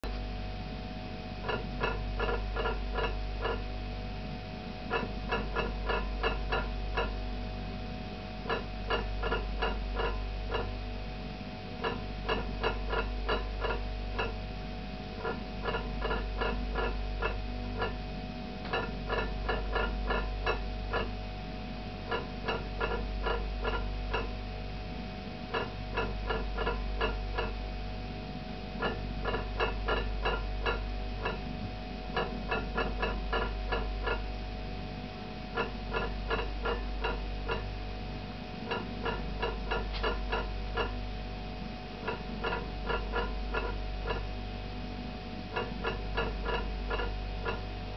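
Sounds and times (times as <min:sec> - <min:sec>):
deep pulsating hum: 0:00.0 - 0:47.9.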